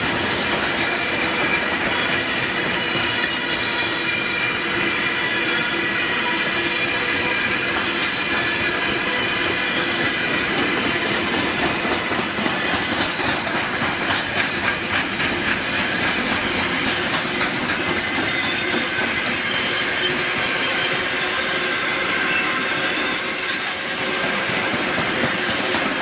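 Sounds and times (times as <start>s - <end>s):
train wheels clacking over rail joints: 0.0s - 21.3s, 22.0s - 26.0s
high squeal: 0.4s - 11.9s, 13.6s - 26.0s.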